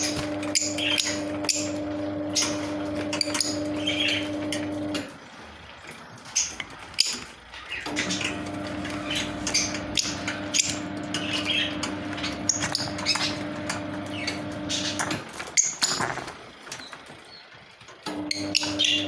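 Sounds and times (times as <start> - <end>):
lovebirds chirping: 0.0 - 17.7, 18.3 - 19.0
electrical hum: 0.0 - 19.0.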